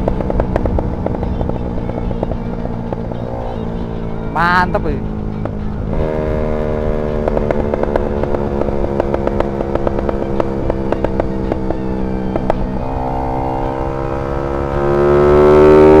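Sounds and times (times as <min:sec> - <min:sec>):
exhaust pops crackling: 0:00.0 - 0:13.7
motorcycle engine running: 0:00.0 - 0:16.0.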